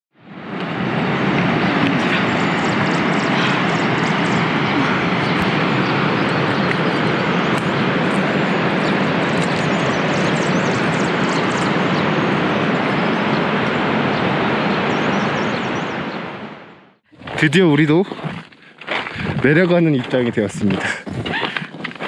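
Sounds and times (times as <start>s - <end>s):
steady rushing noise: 0.2s - 22.0s.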